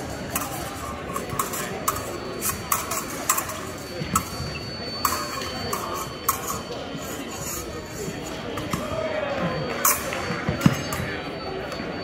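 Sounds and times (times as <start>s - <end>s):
fencing blades clinking: 0.0s - 9.0s, 9.7s - 11.2s
murmur of voices: 0.0s - 12.0s.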